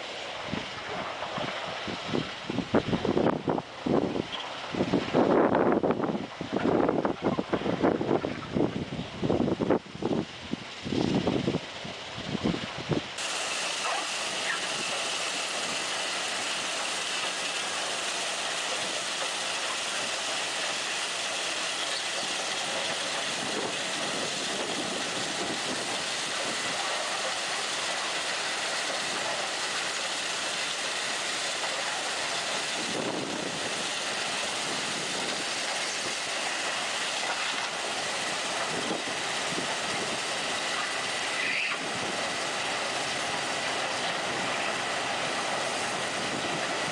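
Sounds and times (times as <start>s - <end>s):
rail machinery noise and hiss: 0.0s - 46.9s.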